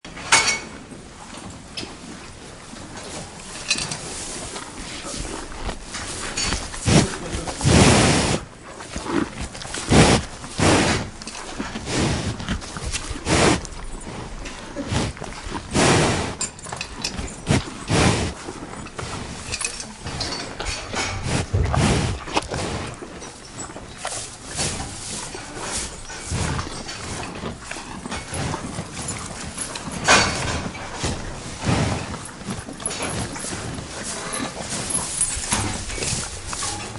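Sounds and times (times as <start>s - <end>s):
cow puffing through nostrils: 1.9s - 36.9s.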